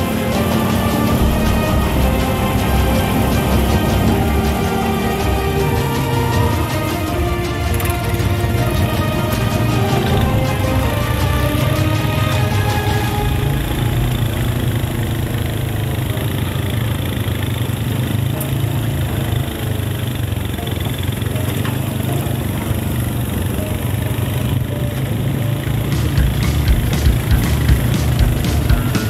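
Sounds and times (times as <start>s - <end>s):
utility vehicle engines droning: 0.0s - 29.0s.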